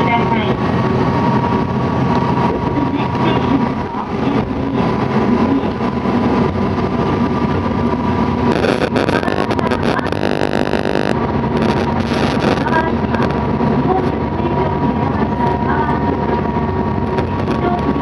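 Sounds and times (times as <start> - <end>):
diesel railcar engine and wheels: 0.0 - 18.0.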